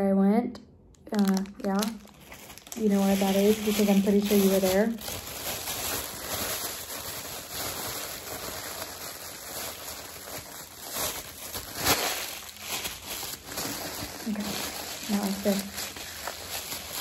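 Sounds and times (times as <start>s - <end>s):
bag crinkling and rustling: 1.1s - 17.0s.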